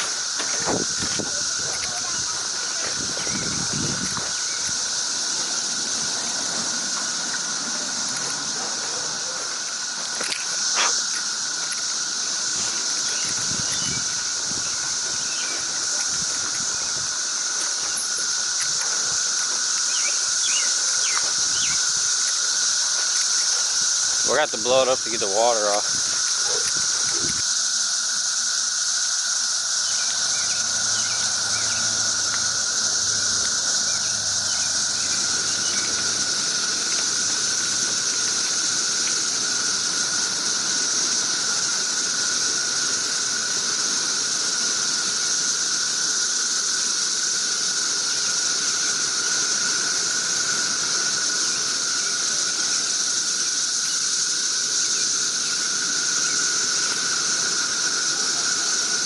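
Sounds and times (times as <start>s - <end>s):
cicadas droning: 0.0s - 59.0s.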